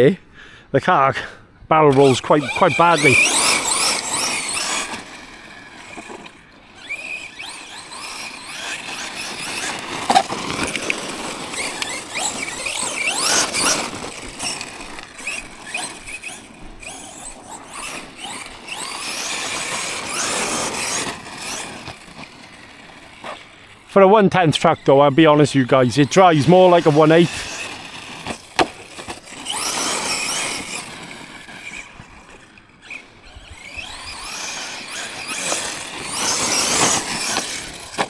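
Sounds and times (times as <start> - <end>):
electric motor whining: 1.8 - 38.0
toy truck rattling over rocks: 1.8 - 38.0.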